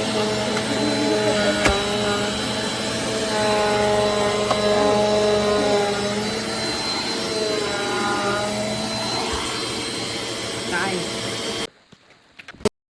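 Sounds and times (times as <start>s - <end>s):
vacuum cleaner running: 0.0s - 11.7s.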